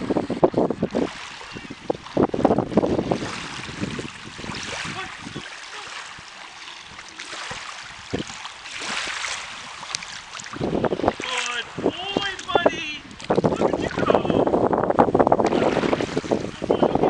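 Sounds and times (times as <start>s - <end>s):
water splashing from wading: 0.0s - 14.3s, 15.3s - 17.0s
steady wash of water: 0.0s - 17.0s.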